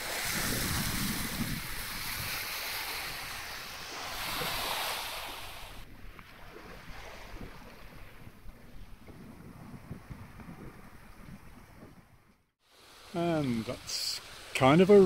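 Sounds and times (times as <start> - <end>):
wind on microphone: 0.0 - 12.5
water rushing along a hull: 0.0 - 15.0.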